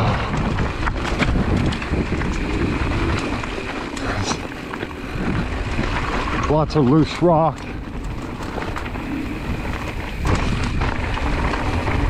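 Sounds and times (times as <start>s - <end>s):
bike rattling and clicking: 0.0s - 12.0s
tyres crunching on gravel: 0.0s - 12.0s
wind on microphone: 0.0s - 12.0s.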